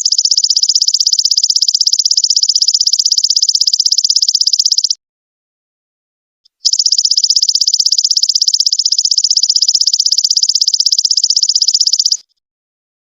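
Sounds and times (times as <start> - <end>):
insect high pulsed trill: 0.0 - 5.0, 6.6 - 12.2.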